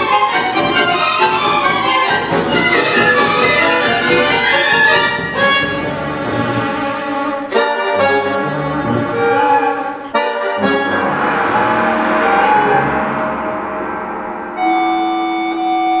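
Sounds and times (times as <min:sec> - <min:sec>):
chamber orchestra playing: 0:00.0 - 0:16.0.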